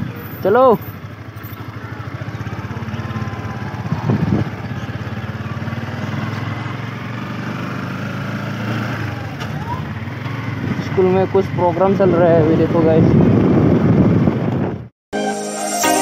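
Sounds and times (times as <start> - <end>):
motorcycle engine pulling away: 0.0 - 14.9.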